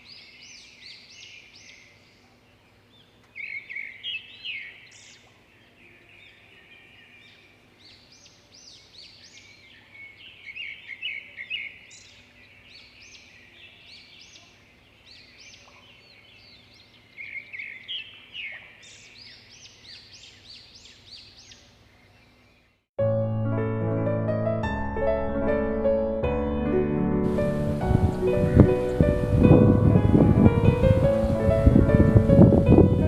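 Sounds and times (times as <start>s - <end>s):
songbirds chirping: 0.0s - 22.9s, 27.3s - 33.0s.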